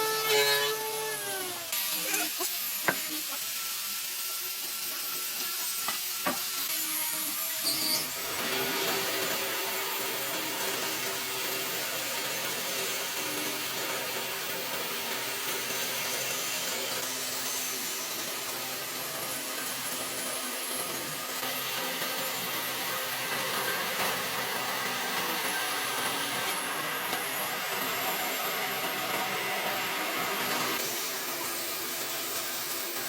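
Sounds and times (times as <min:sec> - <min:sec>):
woodworking power tool running: 0:00.0 - 0:33.0.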